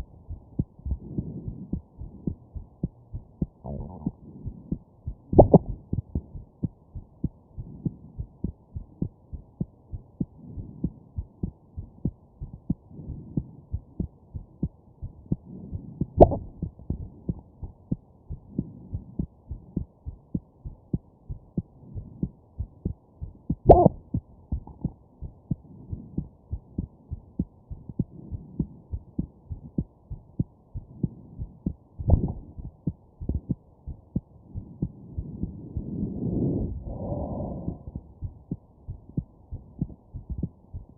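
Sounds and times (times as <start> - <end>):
heartbeat: 0.0 - 40.9.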